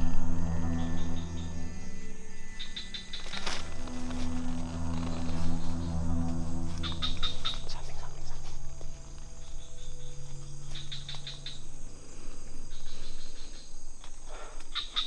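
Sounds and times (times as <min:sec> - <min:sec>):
crickets chirping: 0:00.0 - 0:15.0
low steady hum: 0:00.0 - 0:15.0.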